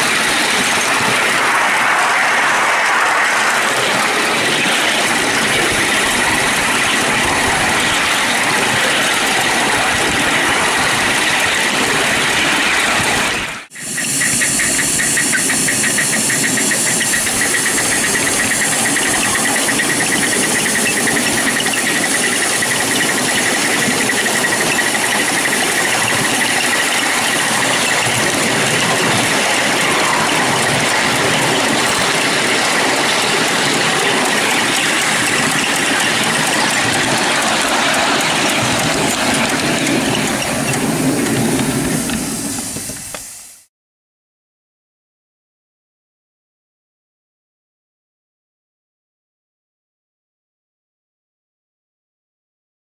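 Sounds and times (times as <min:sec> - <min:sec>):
steam locomotive exhaust: 0:00.0 - 0:43.7.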